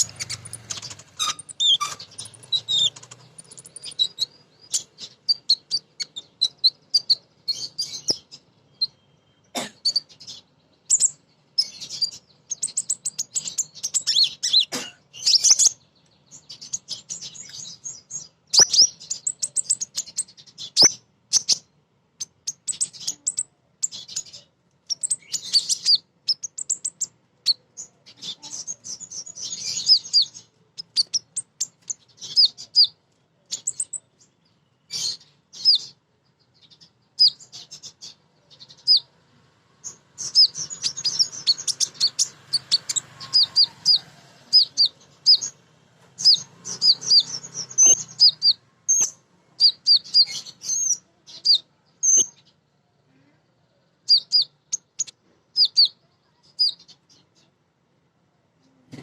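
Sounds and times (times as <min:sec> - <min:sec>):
bird chirping: 0:00.0 - 0:57.7.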